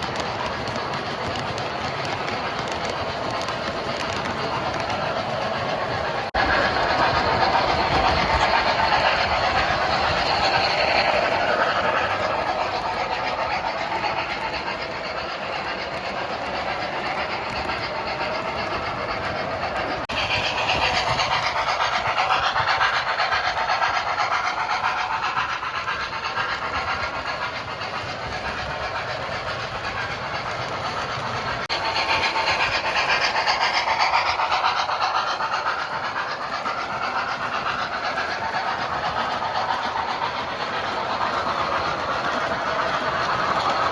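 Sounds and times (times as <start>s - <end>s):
steam hissing: 0.0s - 43.9s
steam locomotive chuffing: 0.0s - 43.9s.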